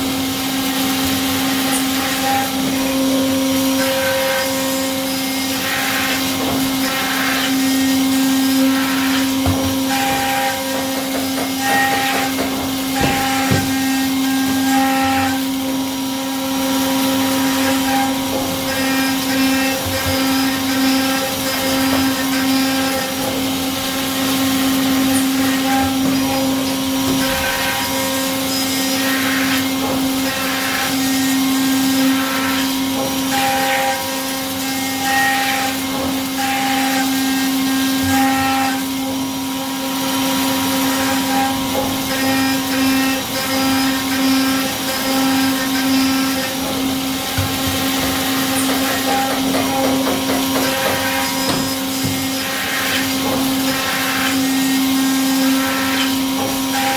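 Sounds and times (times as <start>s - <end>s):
cutting and hissing noise: 0.0s - 56.9s
milling machine spindle whine: 0.0s - 56.9s.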